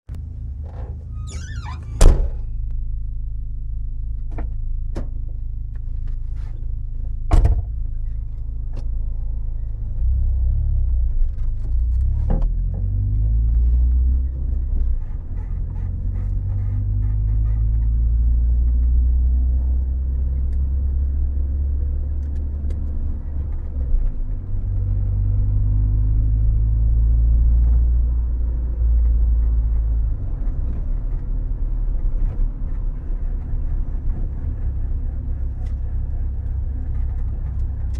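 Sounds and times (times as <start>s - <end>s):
car engine rumbling: 0.0s - 37.9s.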